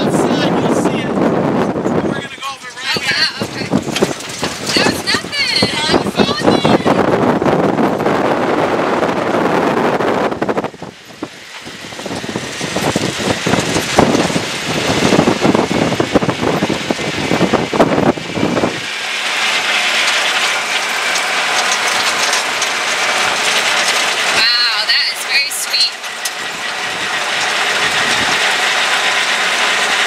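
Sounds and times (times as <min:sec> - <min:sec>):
vehicle rattling and knocking: 0:00.0 - 0:09.3, 0:10.4 - 0:30.0
wind: 0:00.0 - 0:30.0.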